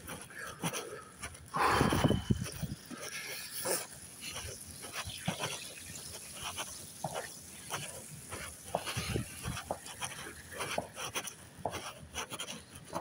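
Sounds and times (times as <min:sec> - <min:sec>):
dog panting and sniffing: 0:00.0 - 0:13.0.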